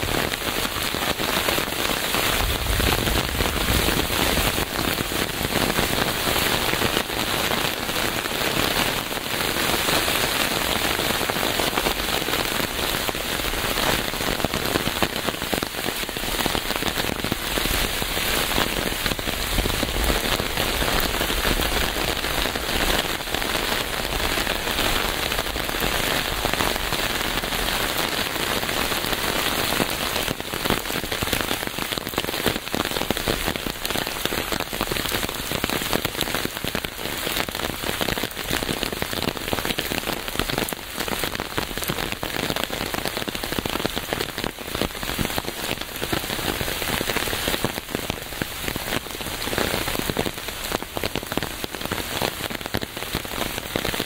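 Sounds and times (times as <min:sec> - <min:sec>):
rain hissing on surface: 0:00.0 - 0:54.0.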